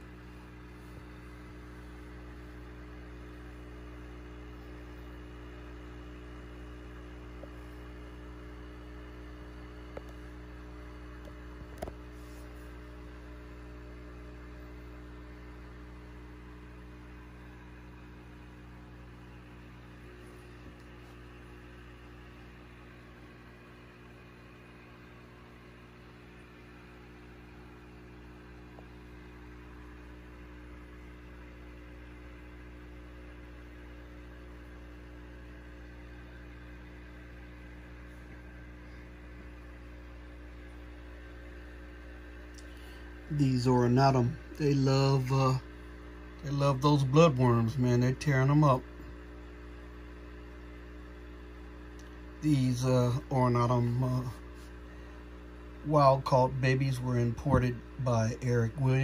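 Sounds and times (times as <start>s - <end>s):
aquarium air pump humming: 0.0s - 59.0s.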